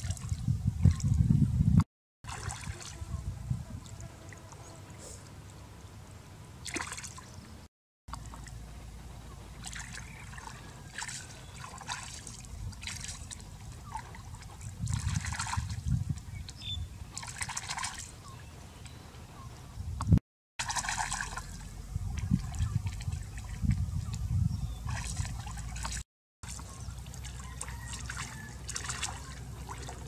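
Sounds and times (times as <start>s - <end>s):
water splashing and trickling: 0.0s - 1.3s, 2.2s - 30.0s.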